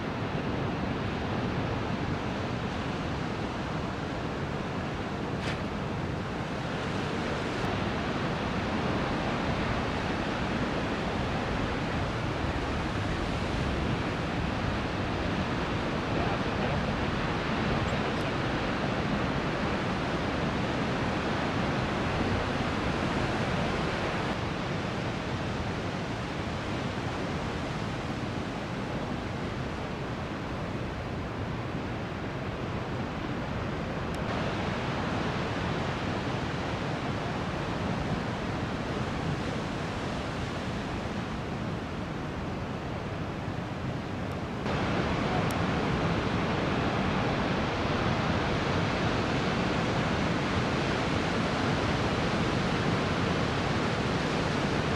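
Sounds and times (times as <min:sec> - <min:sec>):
ocean surf breaking: 0:00.0 - 0:54.9.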